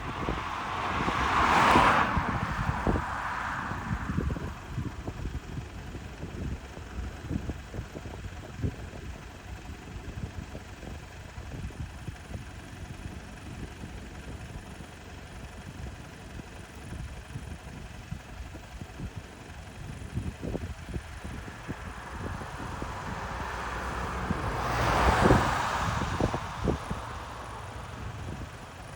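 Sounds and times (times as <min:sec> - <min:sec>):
low uneven rumble: 0:00.0 - 0:28.9.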